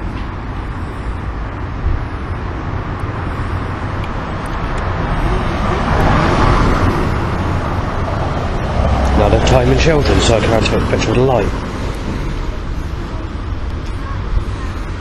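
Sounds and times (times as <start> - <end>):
passing vehicles hiss: 0.0 - 15.0.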